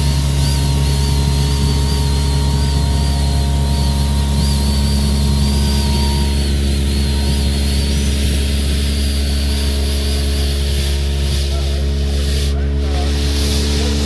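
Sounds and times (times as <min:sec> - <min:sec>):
high wavering whine: 0:00.0 - 0:14.0
vacuum excavator engine drone: 0:00.0 - 0:14.0.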